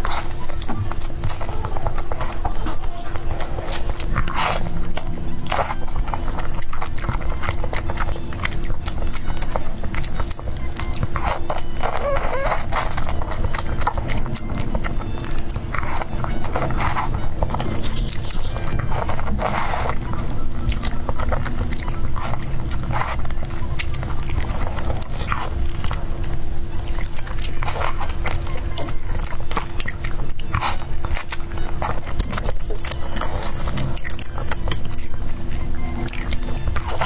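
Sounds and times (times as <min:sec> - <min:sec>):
chewing and crunching food: 0:00.0 - 0:37.0.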